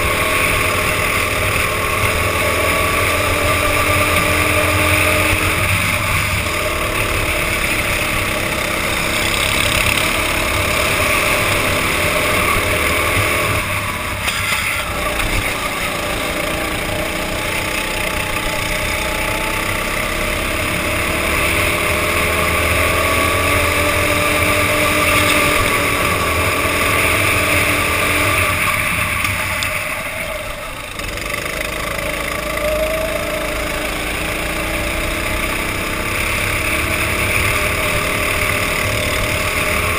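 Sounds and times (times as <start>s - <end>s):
go-kart engine racing: 0.0s - 39.9s.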